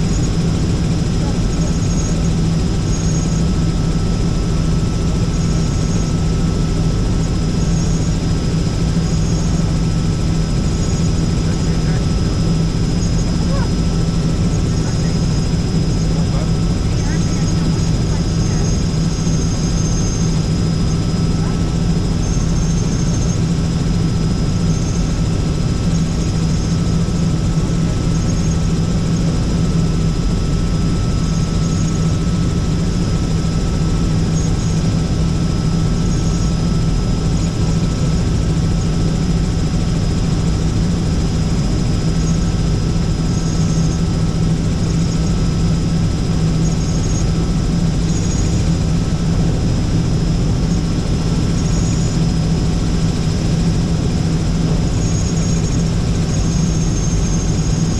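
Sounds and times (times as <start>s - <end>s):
helicopter rotor and engine drone: 0.0s - 57.9s
thin steady whining tones: 0.0s - 57.9s.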